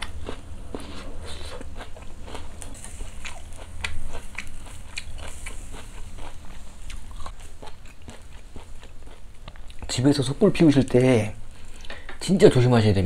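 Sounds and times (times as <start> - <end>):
person chewing: 0.0 - 9.9, 11.5 - 12.0
low steady hum: 0.0 - 13.0.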